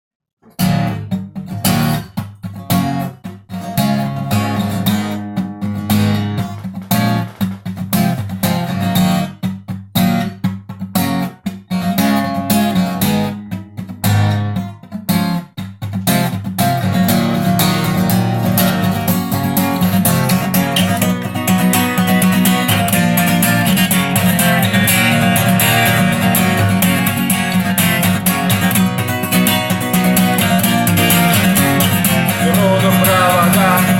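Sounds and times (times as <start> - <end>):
guitar chords and strumming: 0.4 - 33.9.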